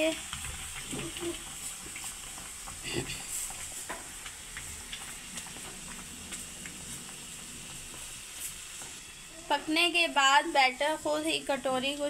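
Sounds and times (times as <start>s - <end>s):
batter sizzling in hot oil: 0.0s - 12.0s
oil popping and crackling: 0.0s - 12.0s.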